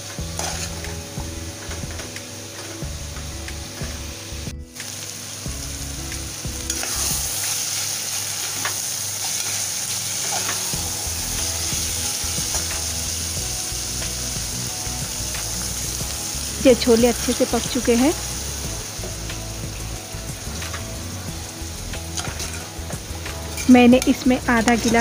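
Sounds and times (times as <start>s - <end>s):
chickpeas sizzling in a pan: 0.0s - 25.0s.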